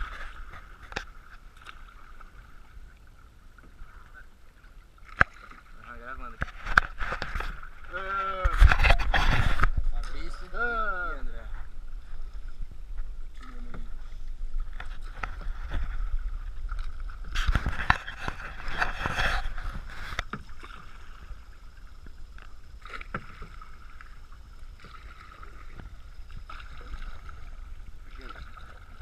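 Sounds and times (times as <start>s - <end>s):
paddle splashing in water: 0.0s - 29.0s.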